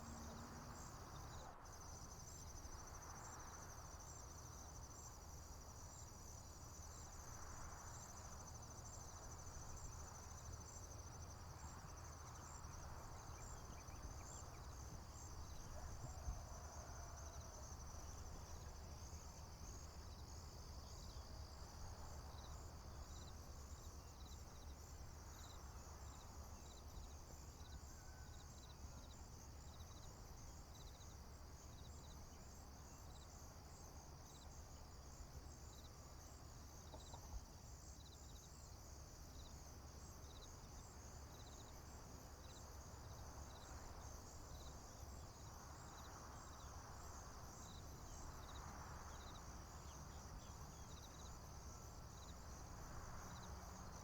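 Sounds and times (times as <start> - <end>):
crickets and insects trilling: 0.0 - 54.0
insect chirping: 0.0 - 54.0.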